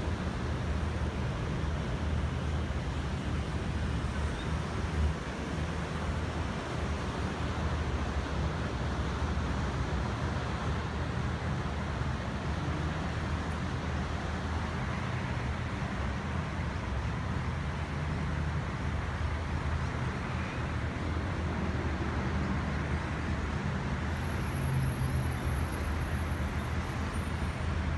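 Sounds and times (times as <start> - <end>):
distant road traffic hum: 0.0 - 27.9.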